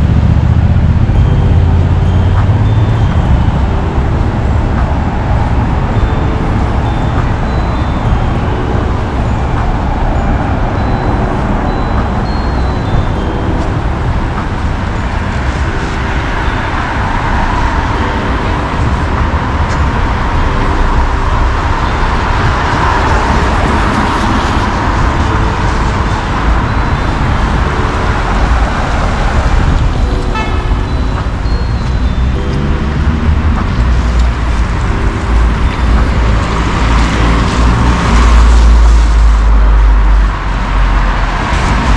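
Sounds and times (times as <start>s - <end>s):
cars passing: 0.0s - 41.9s.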